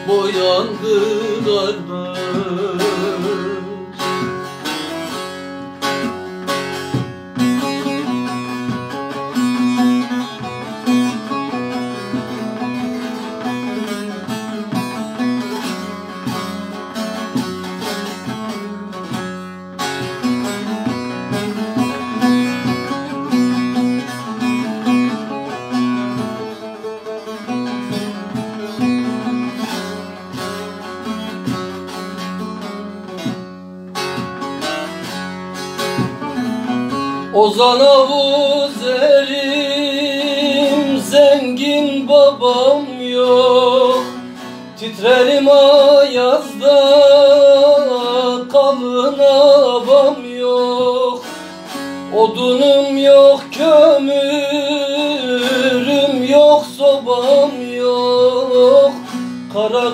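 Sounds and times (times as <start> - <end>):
long-necked lutes plucking: 0.0 - 59.9.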